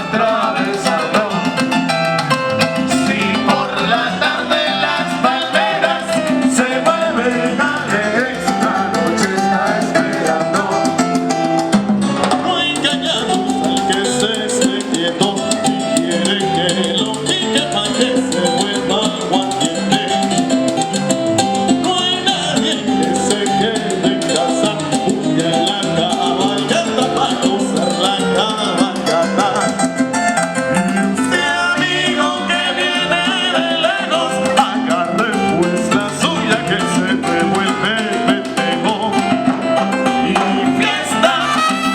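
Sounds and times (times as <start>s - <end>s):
lead singer voice: 0.0s - 1.8s, 2.8s - 11.3s, 12.2s - 20.6s, 21.3s - 30.1s, 31.0s - 41.9s
salsa band music: 0.0s - 41.9s.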